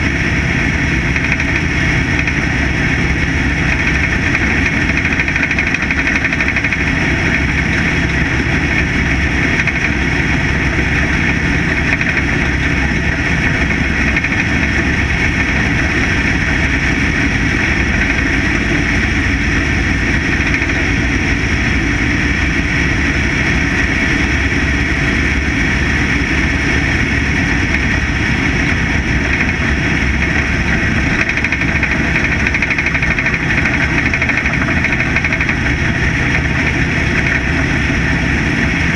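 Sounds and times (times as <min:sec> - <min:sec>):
race car engine running hard: 0:00.0 - 0:38.9.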